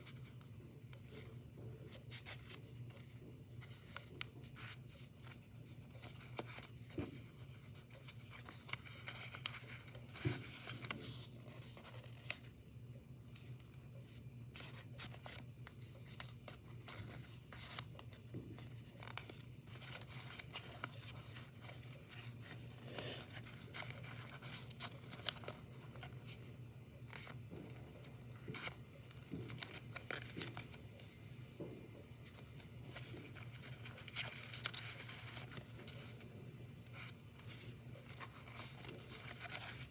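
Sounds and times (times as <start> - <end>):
paper rustling and crinkling: 0.0 - 12.5, 13.2 - 36.1, 36.8 - 39.9
low steady hum: 0.0 - 39.9.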